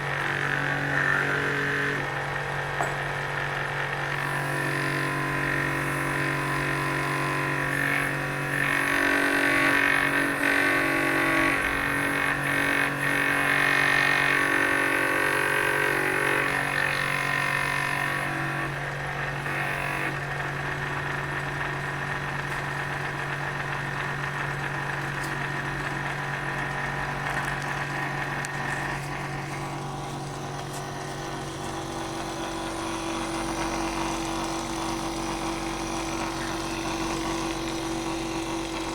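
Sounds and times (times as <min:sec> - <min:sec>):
wood cutting rasp: 0:00.0 - 0:02.8, 0:03.8 - 0:38.9
drill press motor running: 0:00.0 - 0:38.9.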